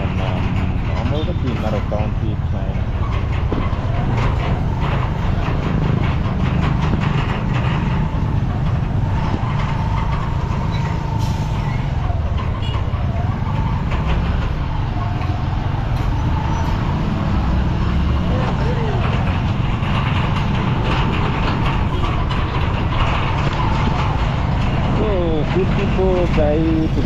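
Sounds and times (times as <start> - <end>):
motorcycle engine rumble: 0.0 - 27.0.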